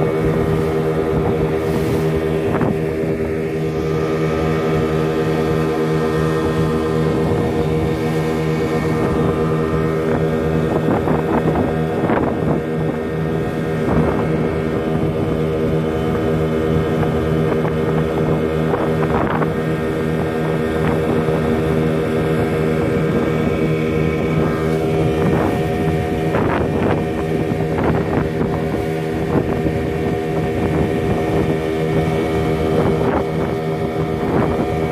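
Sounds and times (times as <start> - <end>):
outboard motor running: 0.0 - 34.9
water splashing against hull: 0.0 - 34.9.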